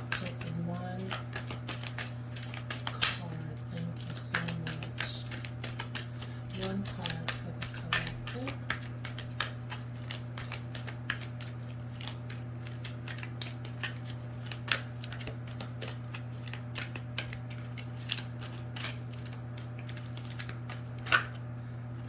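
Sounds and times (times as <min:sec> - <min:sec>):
cards being shuffled: 0:00.0 - 0:21.4
steady low hum: 0:00.0 - 0:22.0.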